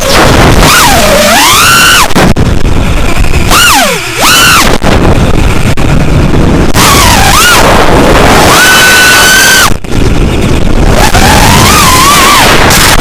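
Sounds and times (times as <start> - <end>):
electric motor and propeller whine: 0.0 - 13.0
wind rush: 0.0 - 13.0.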